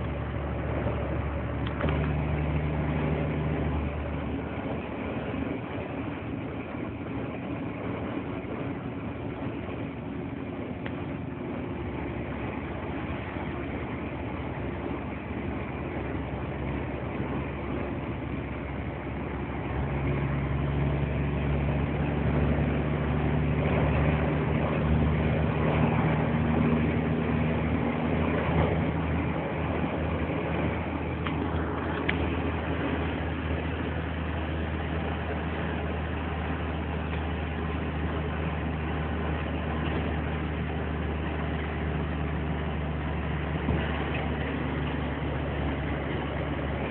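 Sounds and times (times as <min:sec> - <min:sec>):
truck diesel engine running: 0:00.0 - 0:46.9.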